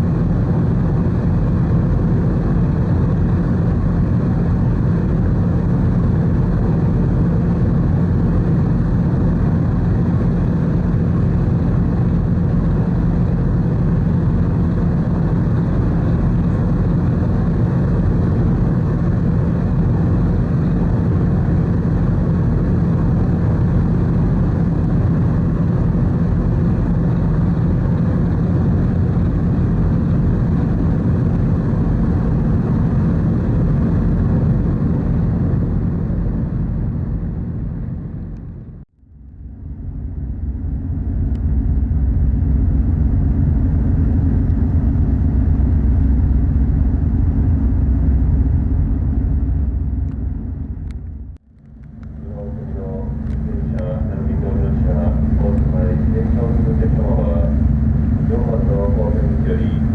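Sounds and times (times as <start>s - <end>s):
ferry engine rumble: 0.0s - 59.9s.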